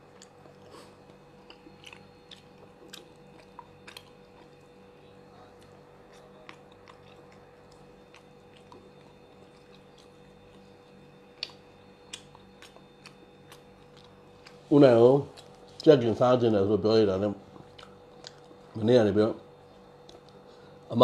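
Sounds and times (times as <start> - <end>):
faint chewing: 0.0 - 16.0, 17.4 - 19.0, 19.6 - 20.9
faint steady hum: 0.0 - 21.0.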